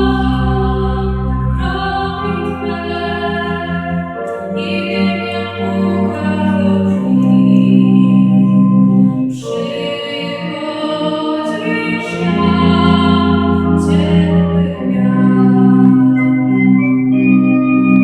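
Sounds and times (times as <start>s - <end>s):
woman singing slow song: 0.0s - 8.5s, 9.3s - 16.2s
sustained organ chords: 0.0s - 18.0s.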